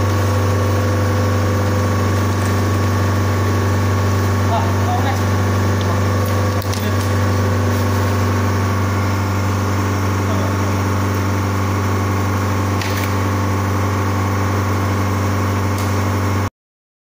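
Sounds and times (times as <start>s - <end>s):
freezer refrigeration hum: 0.0s - 16.5s.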